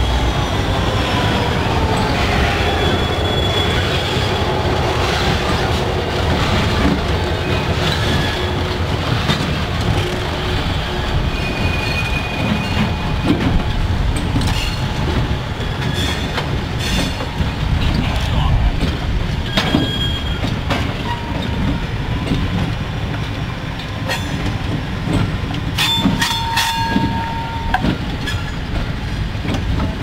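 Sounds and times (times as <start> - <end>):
locomotives rumbling past: 0.0 - 26.2
wheels clicking over rail joints: 5.3 - 30.0.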